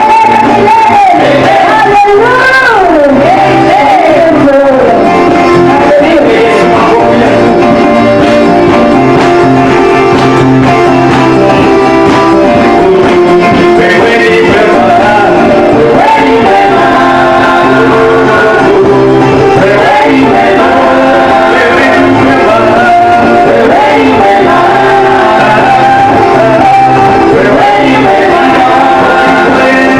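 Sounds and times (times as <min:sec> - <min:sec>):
person singing: 0:00.0 - 0:08.6, 0:12.3 - 0:29.9
bass line: 0:00.0 - 0:29.9
guitar: 0:00.0 - 0:29.9.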